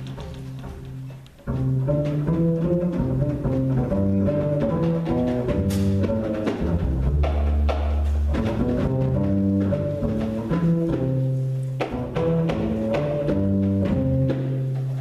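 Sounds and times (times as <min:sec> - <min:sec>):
bass line: 0:00.0 - 0:15.0
drum strokes: 0:00.0 - 0:15.0.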